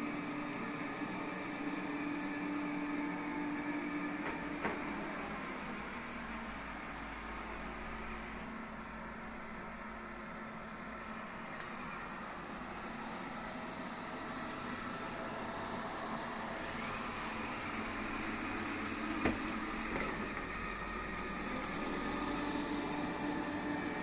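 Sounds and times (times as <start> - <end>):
robot vacuum cleaner whirring: 0.0 - 8.7, 9.3 - 24.0.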